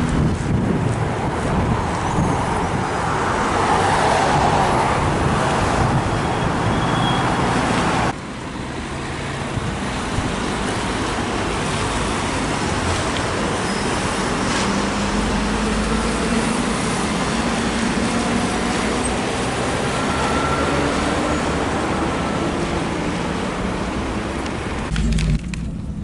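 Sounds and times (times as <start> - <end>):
traffic rushing: 0.0 - 26.0.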